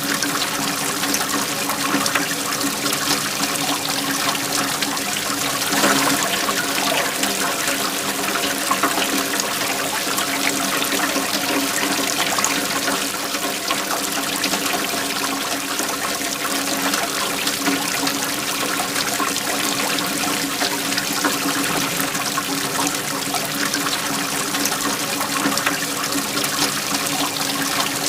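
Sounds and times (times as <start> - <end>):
waterfall rushing: 0.0 - 17.4, 18.0 - 28.0.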